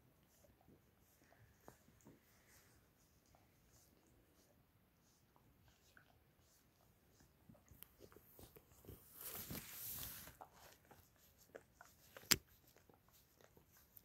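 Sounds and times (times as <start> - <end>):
dog licking feet: 0.0 - 14.0.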